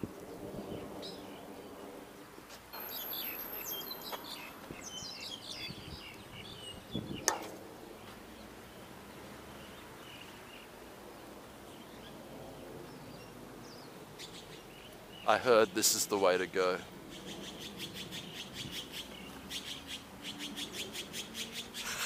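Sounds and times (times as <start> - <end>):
small birds chirping: 2.8 - 22.0.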